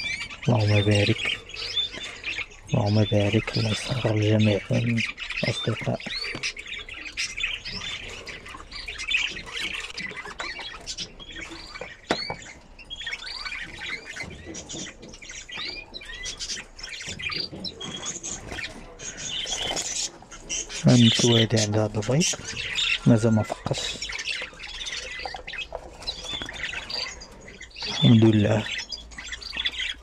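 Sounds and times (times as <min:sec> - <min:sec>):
budgerigars chirping and squawking: 0:00.0 - 0:30.0.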